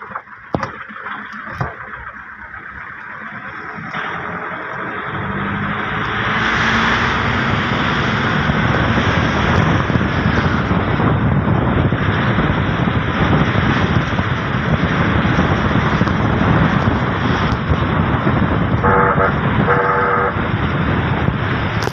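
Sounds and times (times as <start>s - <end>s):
vehicle engine and road noise: 0.0s - 21.9s
wind on microphone: 0.0s - 21.9s.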